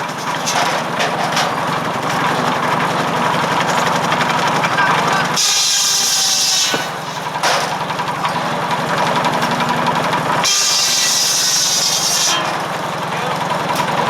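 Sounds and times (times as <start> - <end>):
tractor engine running: 0.0 - 14.0
circular saw whining through wood: 2.5 - 14.0.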